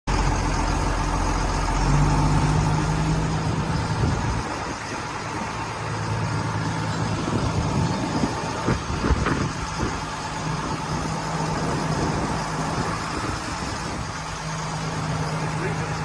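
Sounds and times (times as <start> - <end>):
engine drone: 0.1 - 16.0.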